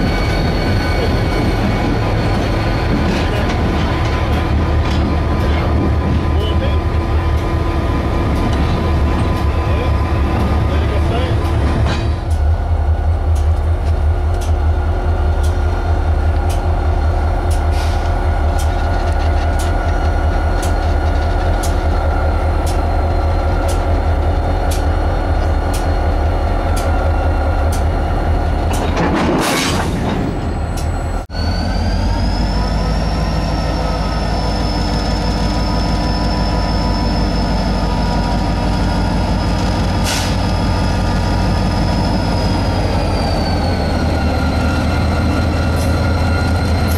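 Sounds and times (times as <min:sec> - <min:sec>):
train rumble from on board: 0:00.0 - 0:46.9.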